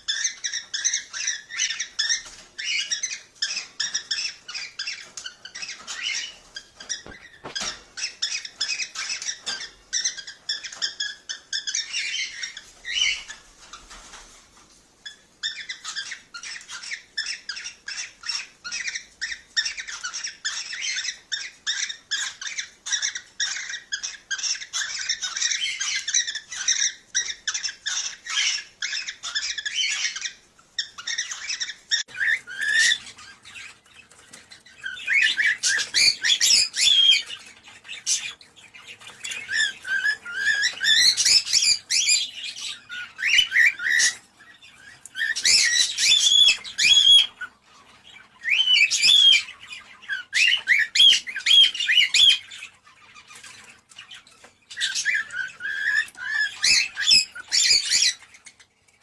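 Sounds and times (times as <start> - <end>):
cockatiels chirping and whistling: 0.0 - 14.3, 15.0 - 59.0.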